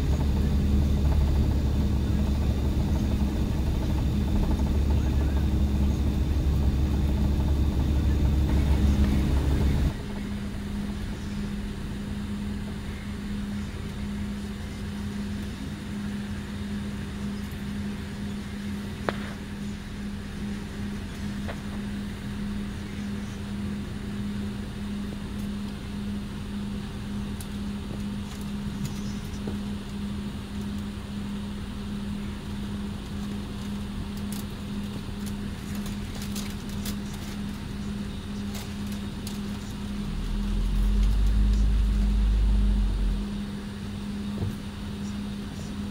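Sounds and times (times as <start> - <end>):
coach diesel engine drone: 0.0 - 45.9.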